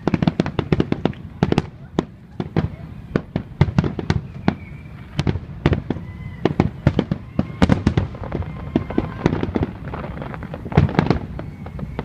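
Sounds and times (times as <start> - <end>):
fireworks booming and cracking: 0.0 - 12.0.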